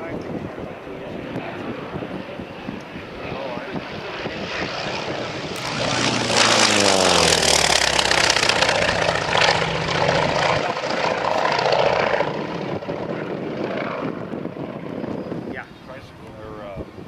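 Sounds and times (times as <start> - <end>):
propeller plane engine fly-by: 0.0 - 17.0.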